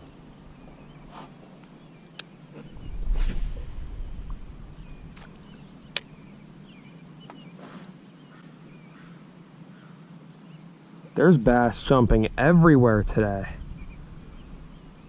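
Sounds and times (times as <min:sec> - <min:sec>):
faint bird chirps: 0:00.0 - 0:11.4, 0:13.3 - 0:15.0
low steady hum: 0:00.0 - 0:15.0.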